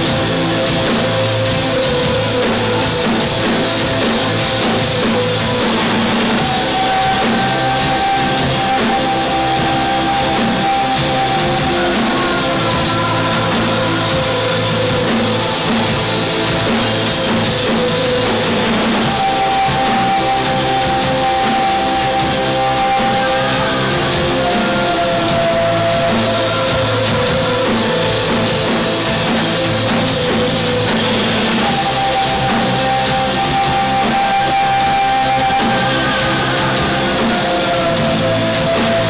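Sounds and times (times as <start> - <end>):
drum kit: 0.0 - 39.0
electric guitars: 0.0 - 39.0
live rock band playing: 0.0 - 39.0.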